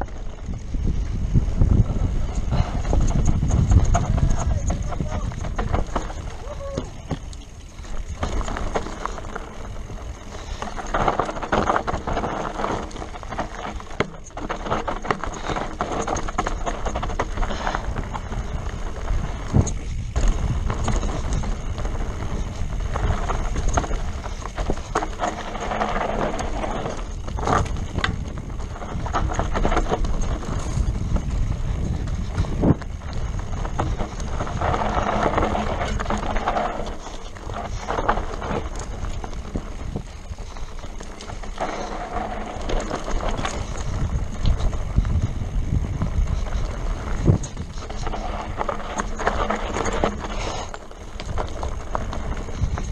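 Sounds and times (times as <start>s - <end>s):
bike rattling and knocking: 0.0s - 52.9s
tyres rolling over dirt and stones: 0.0s - 52.9s
wind rush on microphone: 0.0s - 52.9s.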